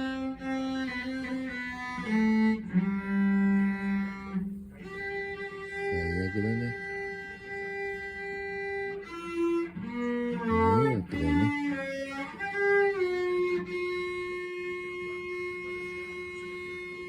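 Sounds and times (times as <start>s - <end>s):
cello bowed: 0.0s - 17.0s.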